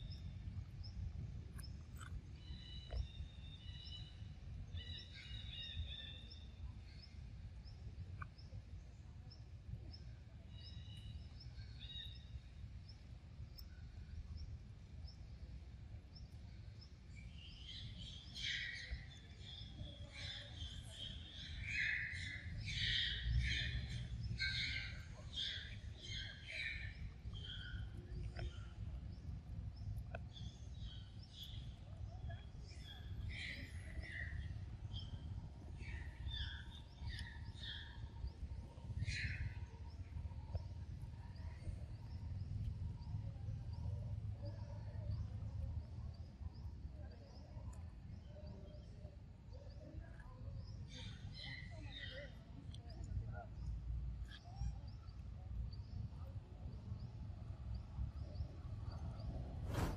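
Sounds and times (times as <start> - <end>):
low outdoor rumble: 0.0 - 59.9.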